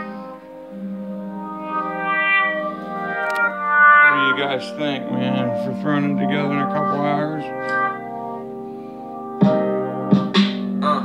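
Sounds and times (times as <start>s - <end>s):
guitar music through speaker: 0.0s - 11.0s.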